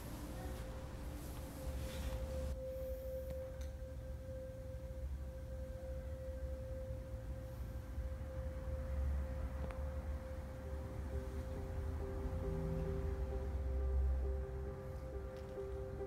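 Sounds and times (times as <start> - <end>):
steady pure tone: 0.0 - 16.0.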